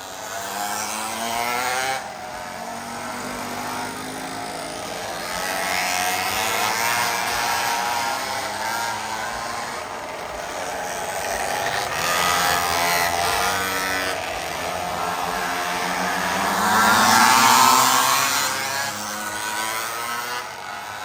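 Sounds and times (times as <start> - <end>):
mini bike engines racing: 0.0 - 21.0.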